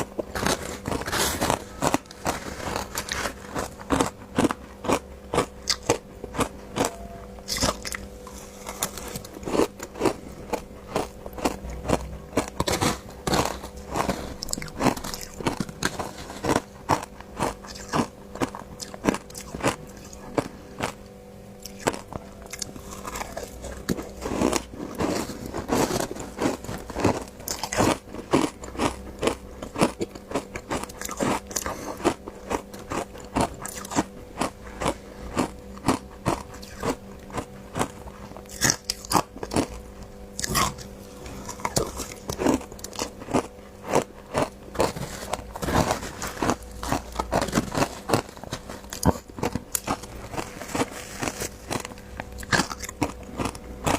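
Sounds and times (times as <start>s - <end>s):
ice crunching while chewed: 0.0s - 53.9s.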